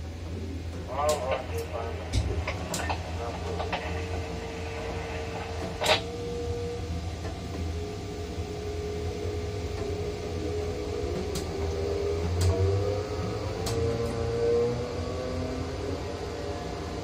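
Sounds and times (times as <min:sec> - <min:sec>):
crane motors humming and whining: 0:00.0 - 0:17.0.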